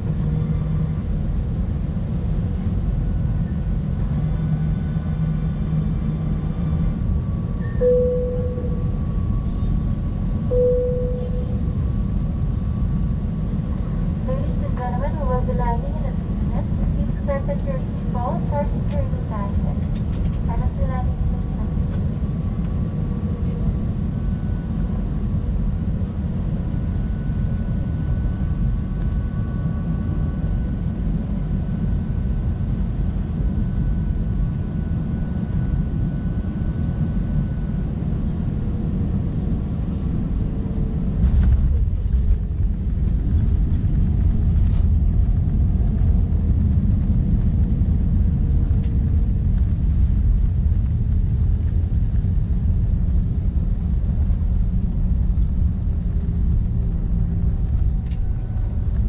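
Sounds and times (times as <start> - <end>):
airplane cabin engine rumble: 0.0 - 59.0
faint engine whine: 0.0 - 59.0.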